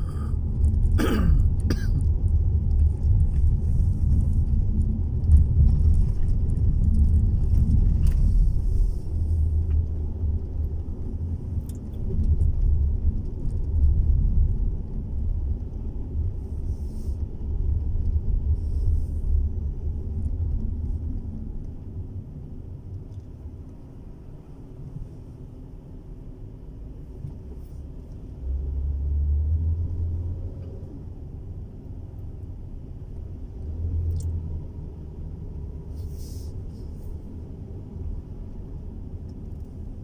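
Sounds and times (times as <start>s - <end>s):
car engine and tyres rumbling: 0.0s - 40.0s.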